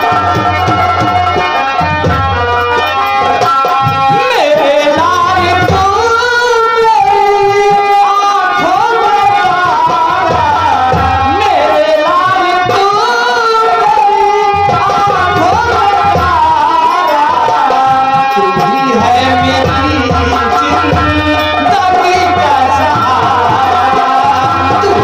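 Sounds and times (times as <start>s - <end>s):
hand drums: 0.0s - 25.0s.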